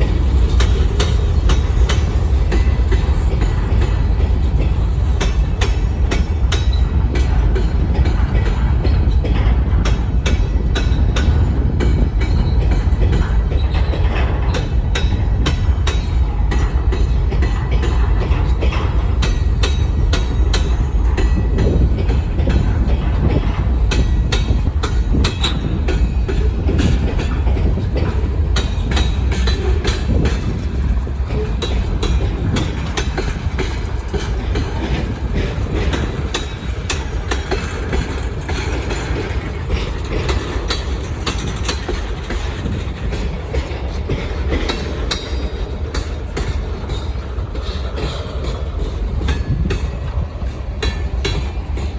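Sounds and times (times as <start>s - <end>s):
wheels clanking over rail joints: 0.0s - 51.9s.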